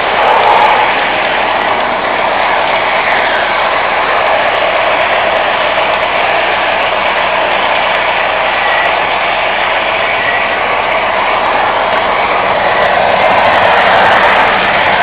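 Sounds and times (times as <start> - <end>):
model train whirring rumble: 0.0 - 15.0.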